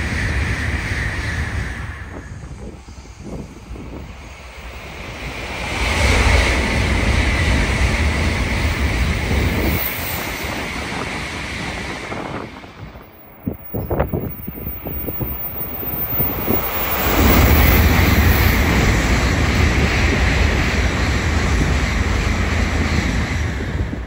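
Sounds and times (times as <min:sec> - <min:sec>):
high-speed train passing: 0:00.0 - 0:24.0.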